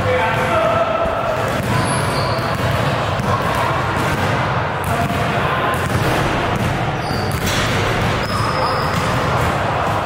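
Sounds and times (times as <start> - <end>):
echoing gymnasium din: 0.0 - 10.0.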